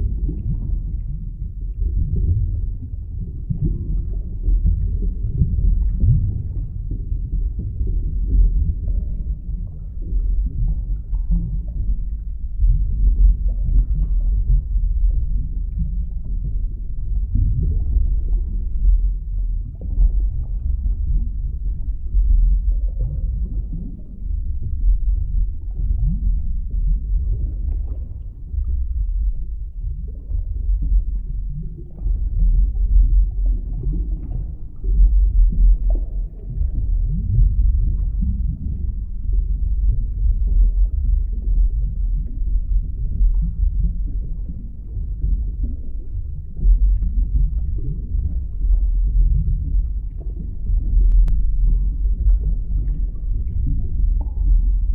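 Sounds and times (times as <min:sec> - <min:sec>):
muffled underwater rumble: 0:00.0 - 0:54.9
underwater gurgles: 0:00.0 - 0:54.9.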